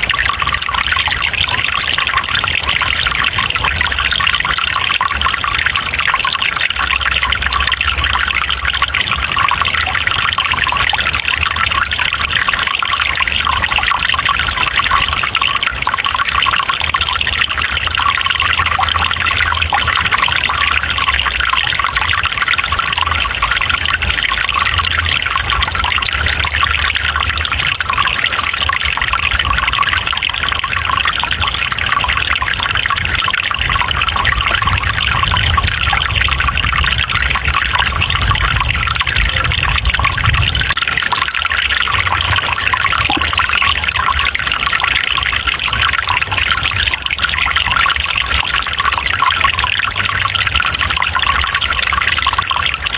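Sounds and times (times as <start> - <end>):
stream water running: 0.0 - 52.9.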